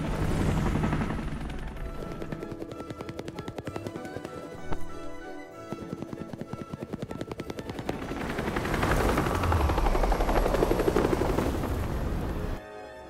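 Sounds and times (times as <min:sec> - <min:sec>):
helicopter rotor beating: 0:00.0 - 0:12.6.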